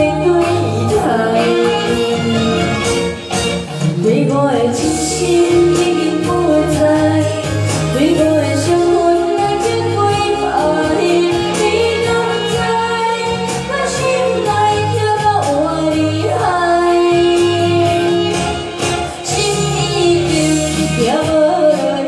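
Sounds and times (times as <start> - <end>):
pop ballad backing track: 0.0 - 22.0
woman singing into karaoke microphone: 0.0 - 22.0.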